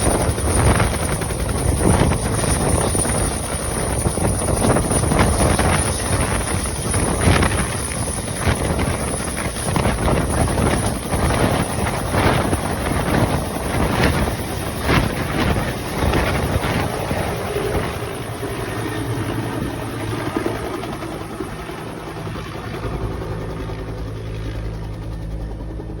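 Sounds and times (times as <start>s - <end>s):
helicopter rotor and turbine whirr: 0.0s - 26.0s.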